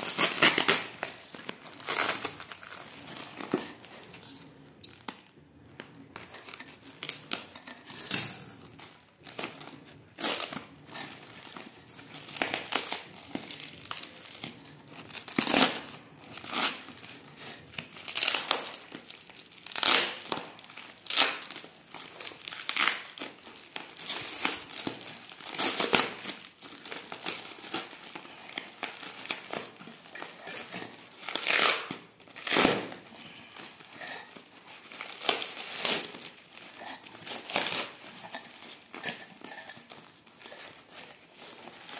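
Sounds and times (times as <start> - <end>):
plastic wrap crinkling: 0.0 - 41.9.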